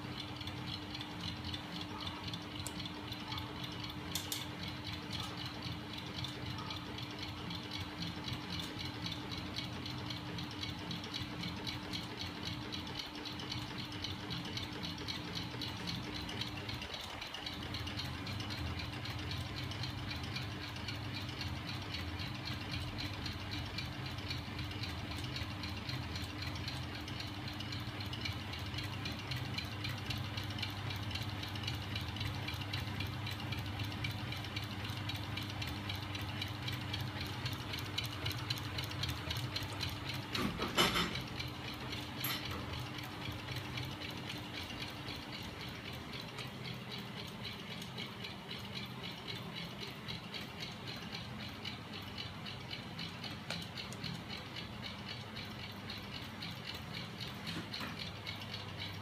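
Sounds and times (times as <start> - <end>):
crank mechanism rattling: 0.0 - 59.0
mechanism clatter: 0.0 - 59.0.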